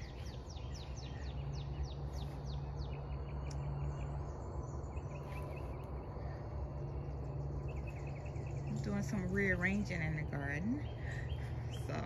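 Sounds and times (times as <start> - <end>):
high chirps of small birds: 0.0 - 12.0
steady low hum: 0.0 - 12.0.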